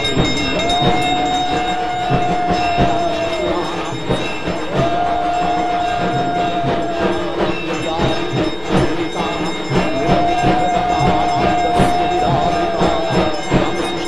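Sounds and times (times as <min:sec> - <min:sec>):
rhythmic percussion: 0:00.0 - 0:14.0.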